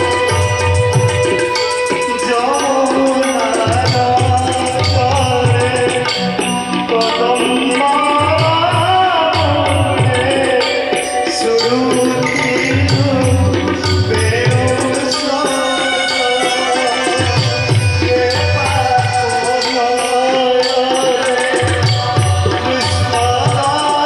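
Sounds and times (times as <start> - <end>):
devotional music: 0.0 - 24.0
keyboard melody: 0.0 - 24.0
tabla drumming: 0.0 - 24.0.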